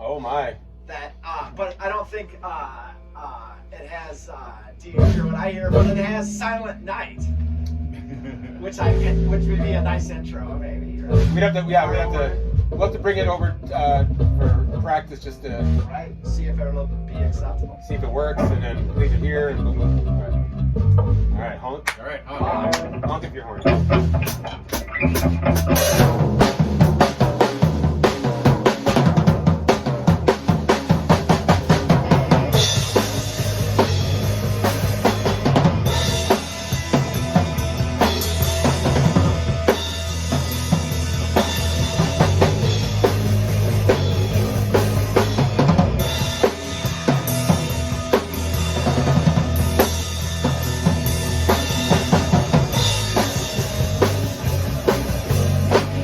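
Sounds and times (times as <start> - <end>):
drum kit beat: 4.2 - 56.0
band playing live: 4.8 - 56.0.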